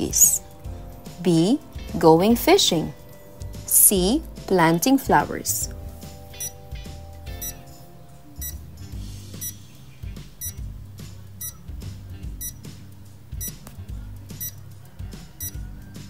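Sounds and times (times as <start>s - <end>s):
countdown timer ticking: 0.0s - 12.7s, 13.4s - 13.6s, 14.3s - 14.6s, 15.4s - 15.6s
quiet music with bass line: 0.0s - 16.0s.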